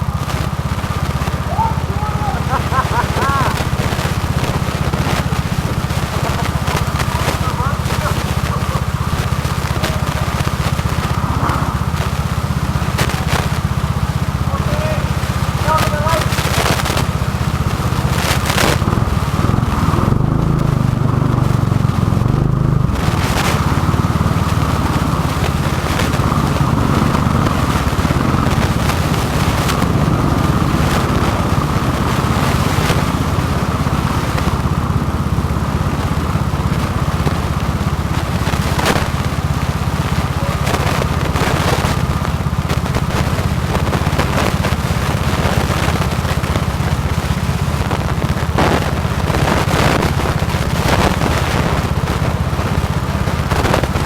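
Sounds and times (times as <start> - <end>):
go-kart engine droning: 0.0 - 54.0.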